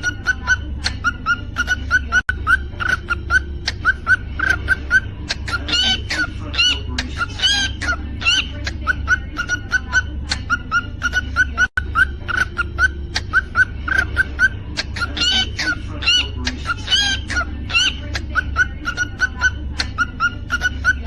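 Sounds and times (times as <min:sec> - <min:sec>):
cockatiel chirping: 0:00.0 - 0:21.0
steady low hum: 0:00.0 - 0:21.0.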